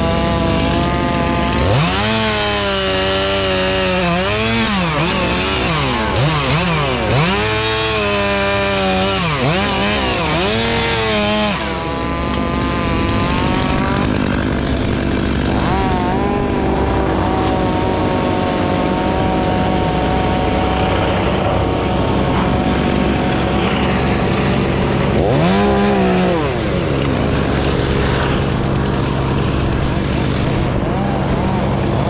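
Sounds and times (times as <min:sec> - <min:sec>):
chainsaw running and revving: 0:00.0 - 0:32.0.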